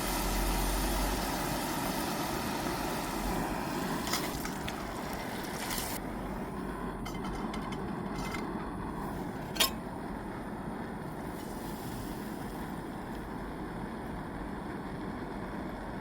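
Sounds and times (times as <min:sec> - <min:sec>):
gas stove burner running: 0:00.0 - 0:16.0.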